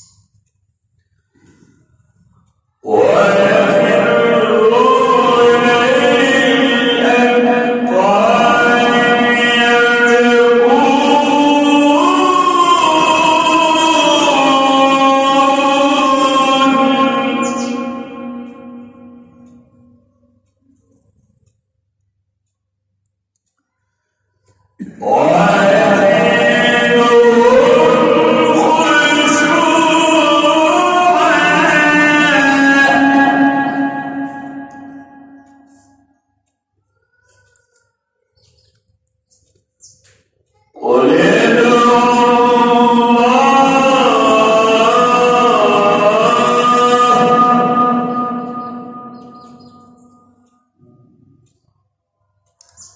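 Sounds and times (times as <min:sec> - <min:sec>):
man reciting melodically: 0:00.0 - 0:21.8, 0:23.3 - 0:52.9.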